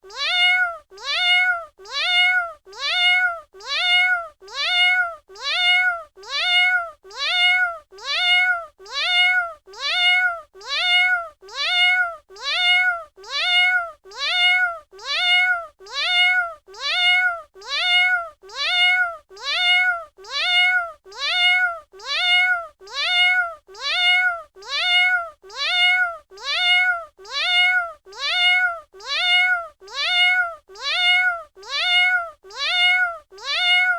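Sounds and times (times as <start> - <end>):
cat meowing: 0.0 - 33.9.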